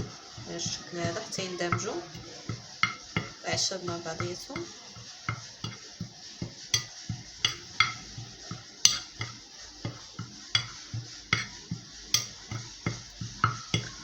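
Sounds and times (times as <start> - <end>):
spoon scraping bowl: 0.1 - 14.0.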